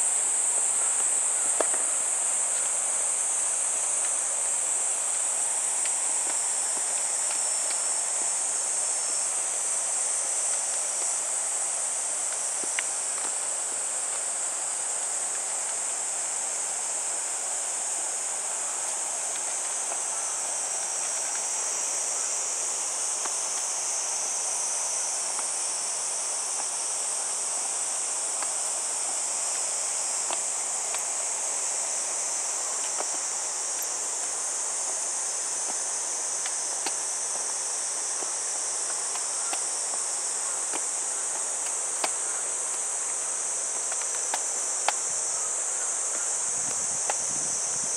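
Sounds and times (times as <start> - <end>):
insect chorus: 0.0 - 47.9.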